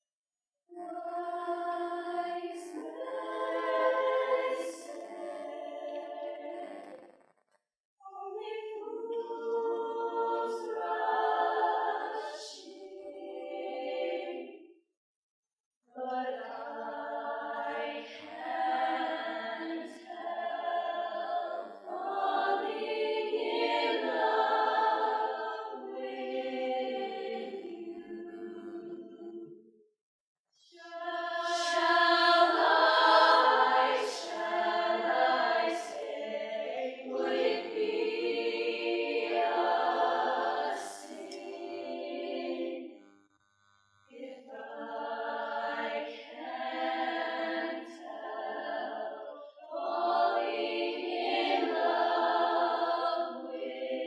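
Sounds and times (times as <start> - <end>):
female choir singing a cappella: 0.7 - 7.2, 8.0 - 14.7, 15.9 - 29.6, 30.6 - 43.0, 44.1 - 54.0.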